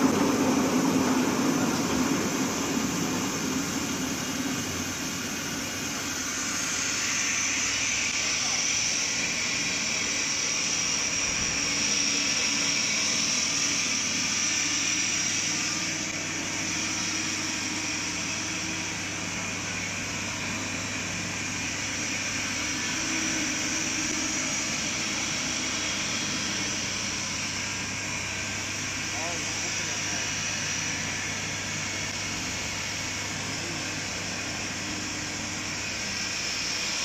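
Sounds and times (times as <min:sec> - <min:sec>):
paper making machine whirring: 0:00.0 - 0:37.0.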